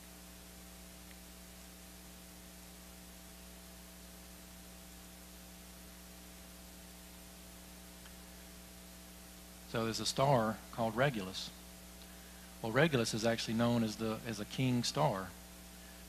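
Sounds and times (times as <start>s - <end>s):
faint hiss: 0.0s - 16.0s
mains hum: 0.0s - 16.0s.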